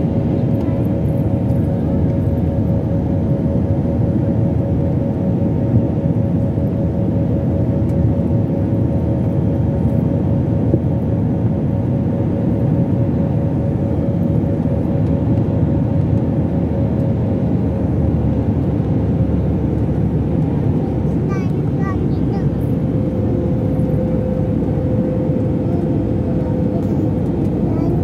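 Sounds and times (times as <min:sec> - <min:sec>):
jet engines and airflow rushing: 0:00.0 - 0:28.0.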